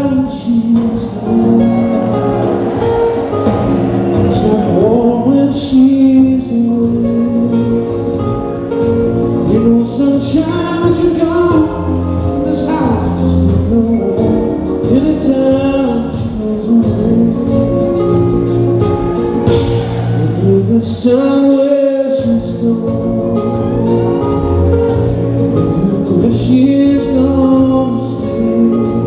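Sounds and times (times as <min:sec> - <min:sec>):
person singing lead vocal: 0:00.0 - 0:08.4, 0:09.3 - 0:18.4, 0:19.2 - 0:29.0
live rock band playing: 0:00.0 - 0:29.0.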